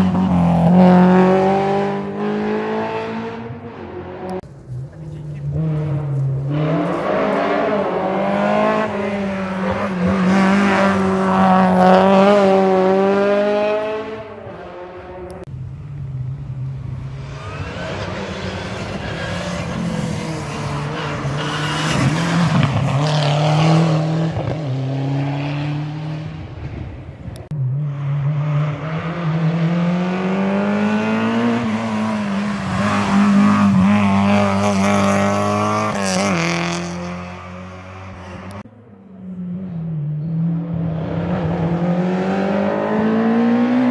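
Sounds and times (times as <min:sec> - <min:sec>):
rally cars revving past: 0:00.0 - 0:43.9.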